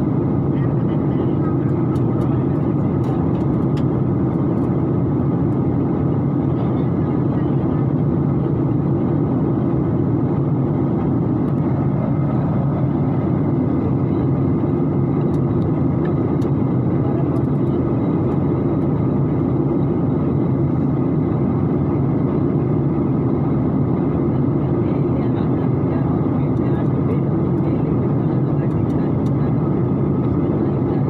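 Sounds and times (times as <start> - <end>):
jet engine roar in cabin: 0.0 - 31.0.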